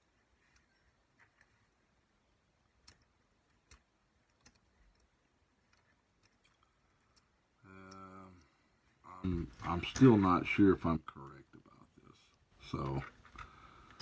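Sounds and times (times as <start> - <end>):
faint clicks of plastic parts: 0.0 - 14.0.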